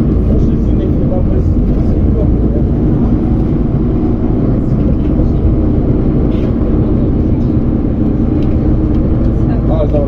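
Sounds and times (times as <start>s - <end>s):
engine rumble: 0.0s - 10.0s
road noise: 0.0s - 10.0s.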